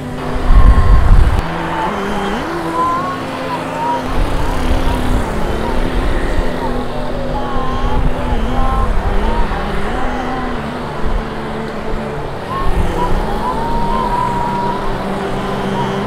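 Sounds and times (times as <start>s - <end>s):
person chanting: 0.0s - 16.0s
street traffic rumbling: 0.0s - 16.0s.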